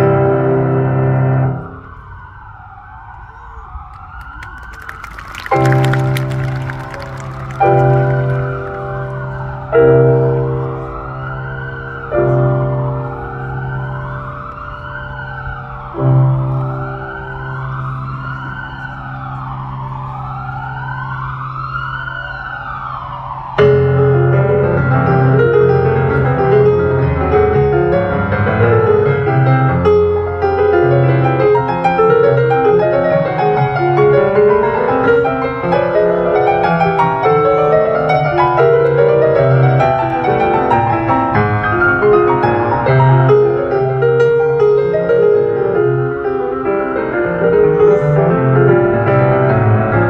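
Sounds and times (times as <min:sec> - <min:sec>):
piano piece: 0:00.0 - 0:03.1, 0:03.9 - 0:50.0.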